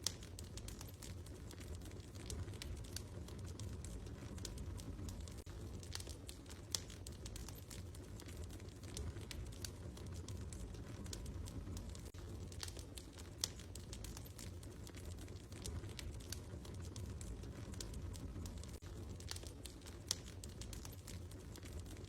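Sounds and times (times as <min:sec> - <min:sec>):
sharp fire pops: 0:00.0 - 0:22.0
wood fire crackling: 0:00.0 - 0:22.0.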